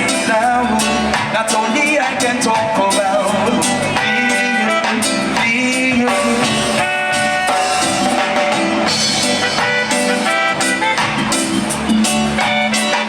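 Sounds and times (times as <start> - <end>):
instrumental band music: 0.0 - 13.0.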